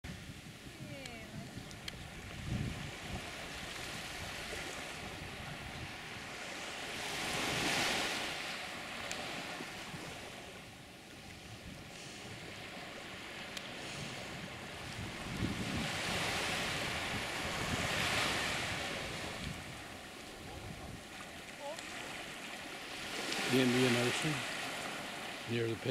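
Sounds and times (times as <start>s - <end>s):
wind rumbling on microphone: 0.0s - 25.9s
waves washing onto sandy beach: 0.1s - 25.9s.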